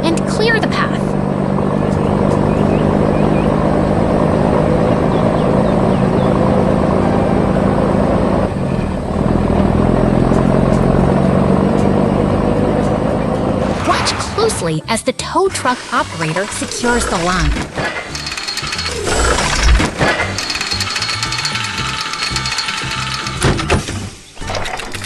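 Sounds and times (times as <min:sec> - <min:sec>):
truck engine running: 0:00.0 - 0:24.3.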